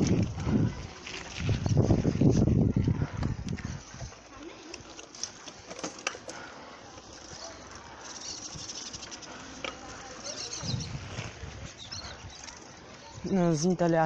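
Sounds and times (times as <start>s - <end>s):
bicycle tyres rolling: 0.0s - 14.0s.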